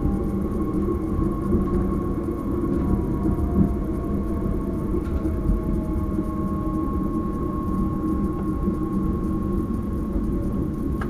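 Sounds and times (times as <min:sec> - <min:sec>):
electric drive whine: 0:00.0 - 0:11.0
train wheels rumbling on track: 0:00.0 - 0:11.0.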